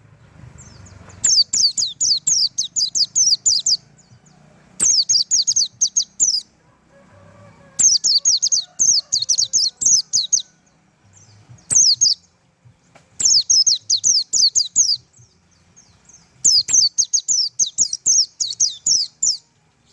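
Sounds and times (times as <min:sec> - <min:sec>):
bird chirping rapidly: 0:00.5 - 0:06.6, 0:07.8 - 0:19.9.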